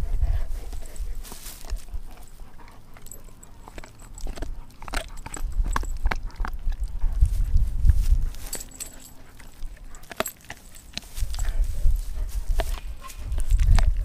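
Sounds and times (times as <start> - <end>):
dog gnawing on bone: 0.6 - 7.6, 8.2 - 14.0.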